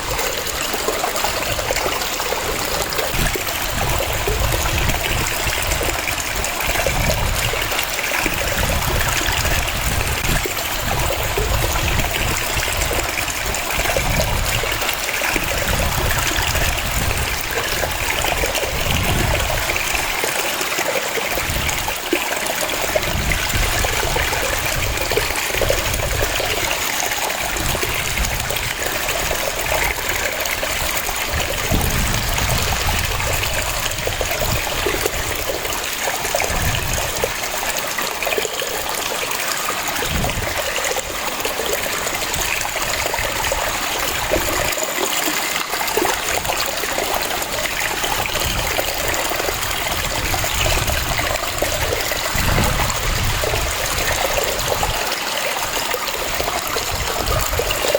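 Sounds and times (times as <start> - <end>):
waterfall rushing and splashing: 0.0 - 57.9.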